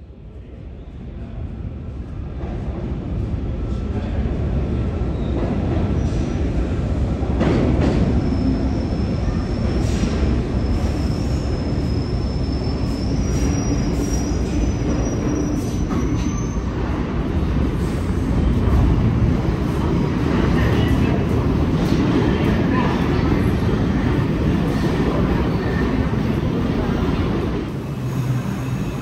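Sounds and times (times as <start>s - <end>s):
subway train rumble on rails: 0.0s - 29.0s.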